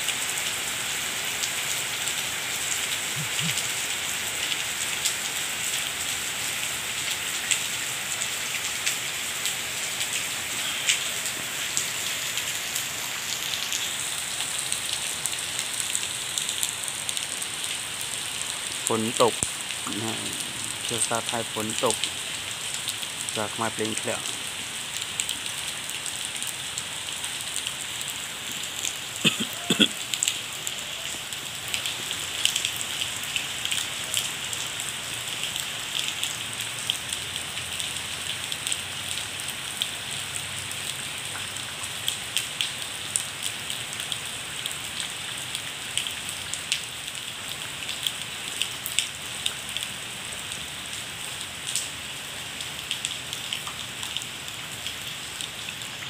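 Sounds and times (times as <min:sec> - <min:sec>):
heavy rain on water: 0:00.0 - 0:56.0.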